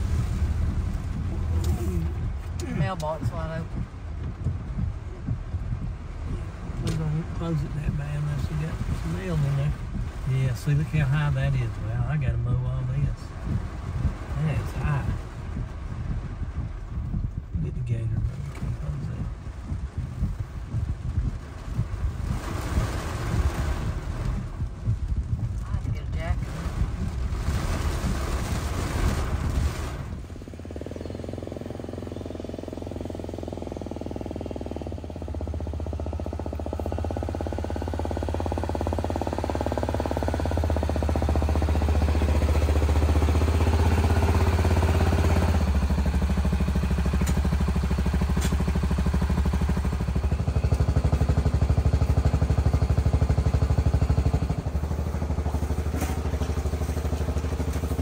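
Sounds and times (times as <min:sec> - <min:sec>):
utility vehicle engine humming: 0:00.0 - 0:58.0.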